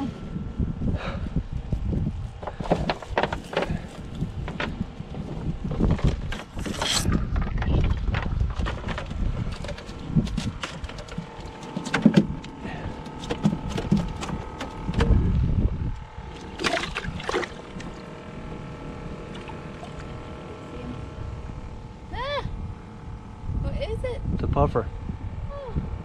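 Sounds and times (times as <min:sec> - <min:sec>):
low rumbling handling noise: 0:00.0 - 0:26.0.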